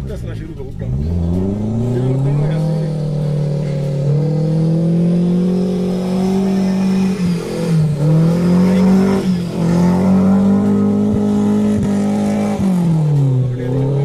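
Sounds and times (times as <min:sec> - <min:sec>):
car engine revving hard: 0:00.0 - 0:14.0.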